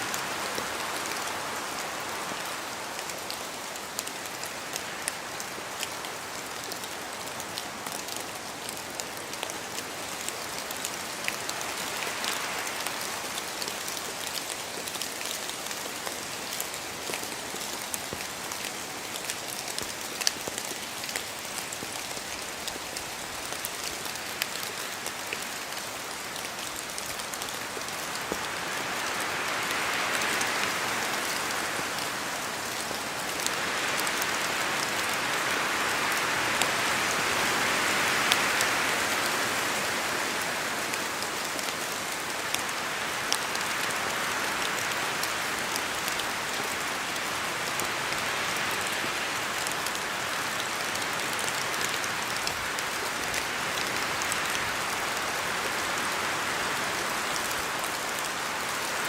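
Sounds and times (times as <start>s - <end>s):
rain in a forest: 0.0s - 59.0s
wind through trees: 0.0s - 59.0s.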